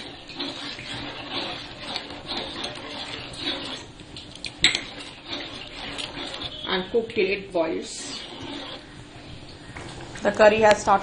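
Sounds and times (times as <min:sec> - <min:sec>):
spoon stirring curry in a pan: 0:00.0 - 0:09.7.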